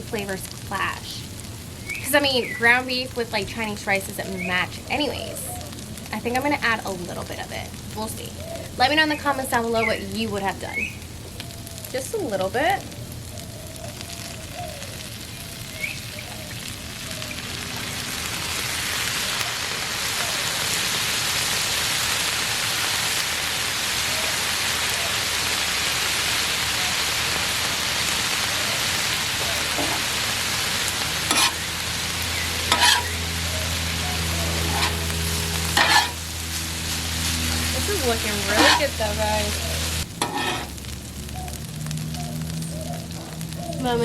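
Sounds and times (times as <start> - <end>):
meat and vegetables sizzling on griddle: 0.0 - 44.0.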